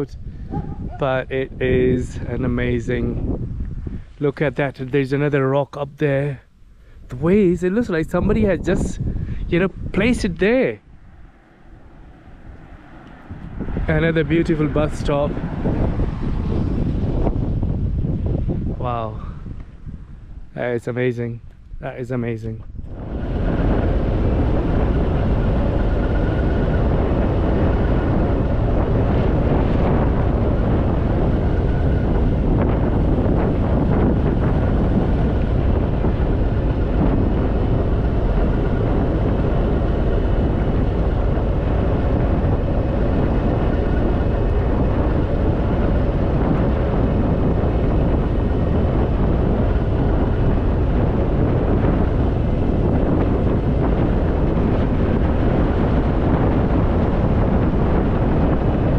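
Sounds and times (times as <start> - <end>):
wind on microphone: 0.0 - 58.9.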